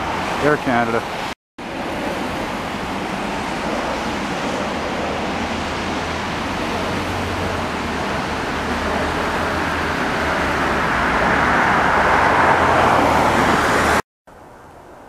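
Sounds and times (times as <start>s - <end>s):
jet airliner engine roar overhead: 0.0s - 15.0s.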